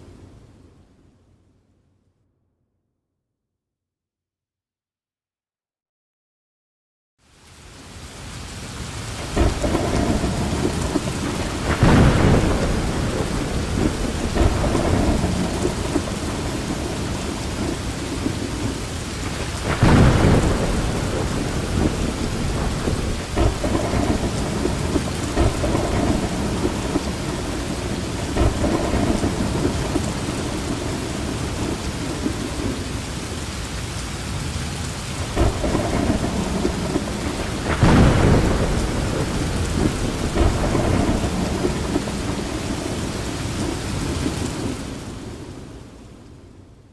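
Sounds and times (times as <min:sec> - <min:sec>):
heavy rain pouring: 0:07.2 - 0:46.9.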